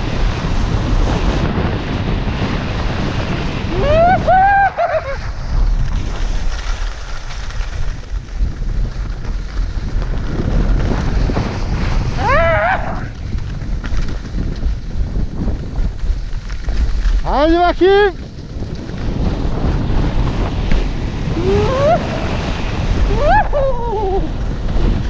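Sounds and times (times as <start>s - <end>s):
wind buffeting microphone: 0.0s - 25.0s
skis hissing over snow: 4.4s - 25.0s.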